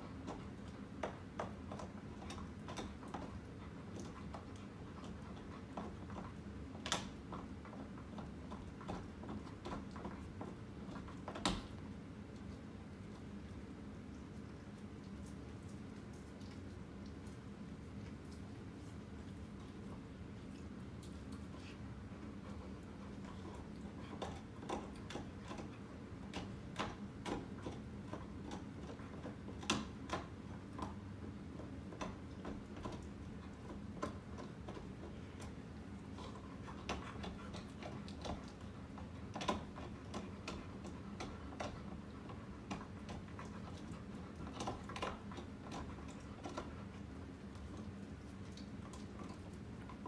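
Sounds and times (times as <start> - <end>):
ceiling fan motor hum: 0.0 - 50.0.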